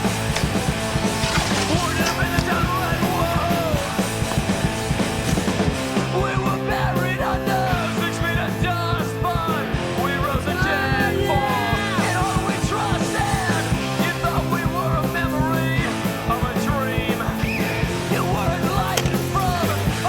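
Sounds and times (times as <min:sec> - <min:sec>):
punk rock song with yelled vocals: 0:00.0 - 0:20.0.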